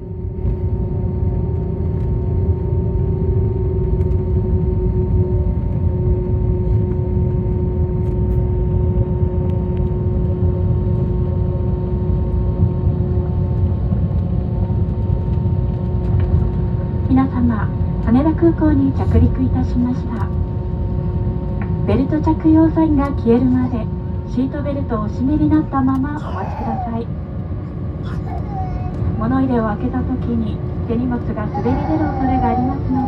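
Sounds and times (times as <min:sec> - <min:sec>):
low rumble of plane rollout: 0:00.0 - 0:33.0
steady cabin hum: 0:00.0 - 0:33.0.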